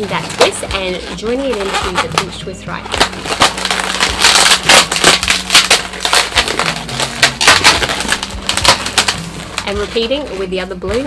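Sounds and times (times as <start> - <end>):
balloons squeaking and crackling: 0.0 - 11.0.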